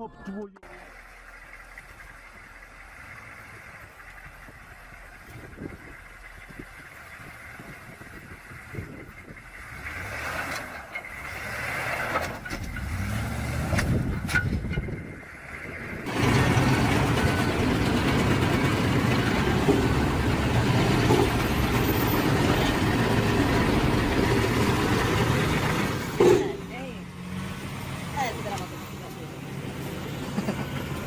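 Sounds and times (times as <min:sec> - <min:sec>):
vehicle engine running: 0:00.6 - 0:31.0.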